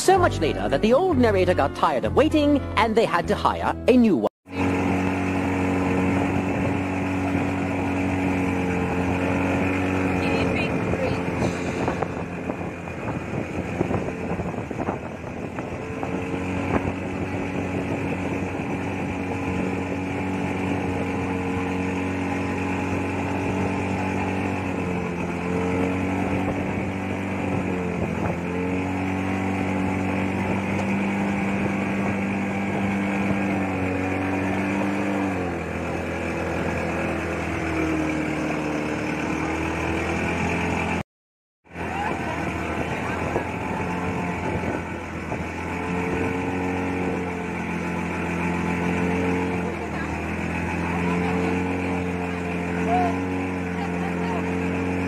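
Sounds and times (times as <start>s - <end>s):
motorboat engine running: 0.0s - 41.0s, 41.6s - 55.0s.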